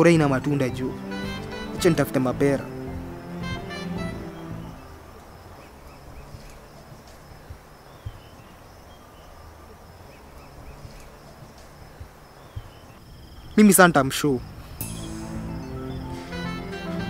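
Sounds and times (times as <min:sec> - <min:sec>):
bird chirping: 0:00.0 - 0:17.0
high insect whine: 0:00.1 - 0:17.0.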